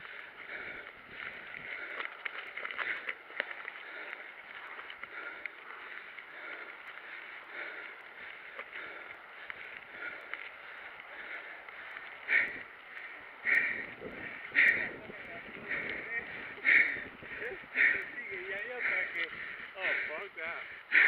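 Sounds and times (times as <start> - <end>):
bike clicking and rattling: 0.0 - 21.0
bike tyres crunching on gravel: 0.0 - 21.0.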